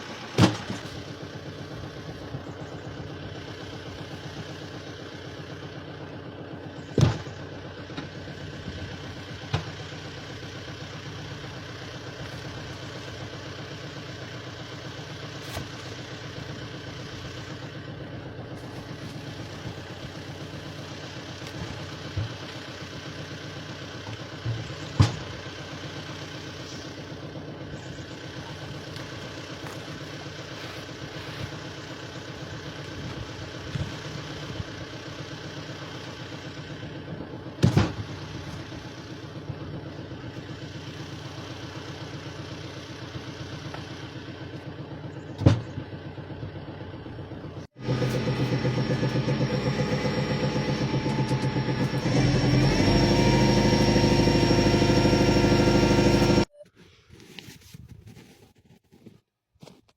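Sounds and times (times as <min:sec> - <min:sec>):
engine running steadily: 0:00.0 - 0:56.5.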